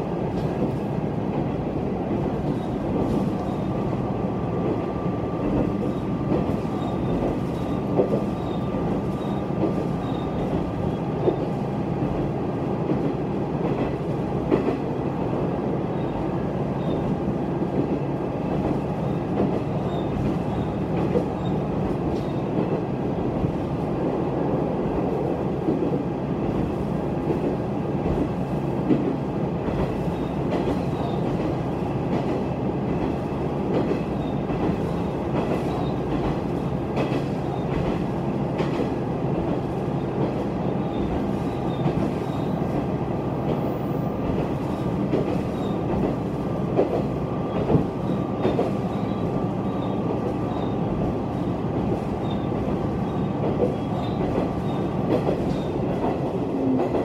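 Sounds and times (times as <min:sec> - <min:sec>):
railcar engine and wheels rumble: 0:00.0 - 0:57.0.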